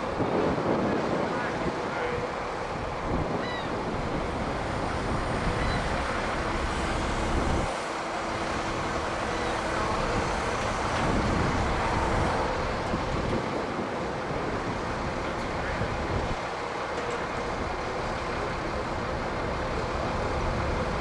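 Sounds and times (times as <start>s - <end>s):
crane engine running: 0.0s - 21.0s
wind rumbling on microphone: 0.0s - 21.0s.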